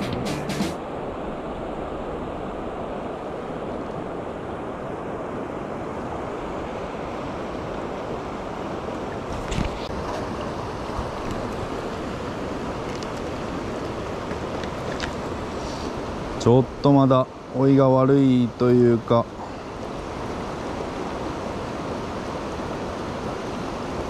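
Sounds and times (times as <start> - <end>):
river rushing over stones: 0.8 - 24.0.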